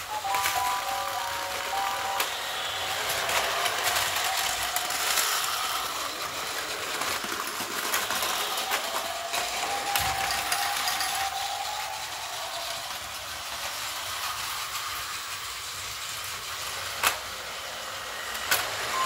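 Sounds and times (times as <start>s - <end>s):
plastic gears and wheels clattering: 0.0s - 19.0s
toy train motor whine: 0.0s - 19.0s.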